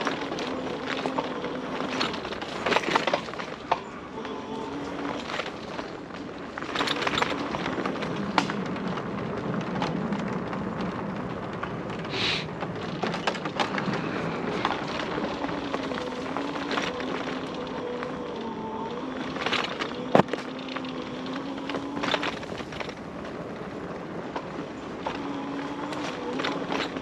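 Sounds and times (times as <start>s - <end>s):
faint motor whine: 0.0s - 11.9s, 12.6s - 27.0s
bike clicks and rattles: 0.0s - 27.0s
bike tyres on dirt trail: 0.0s - 27.0s.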